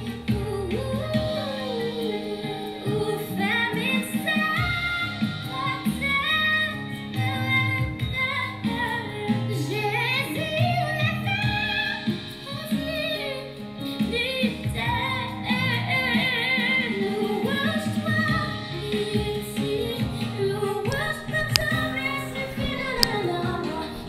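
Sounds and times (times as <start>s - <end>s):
instrumental backing: 0.0s - 24.0s
singer with vibrato: 0.0s - 24.0s.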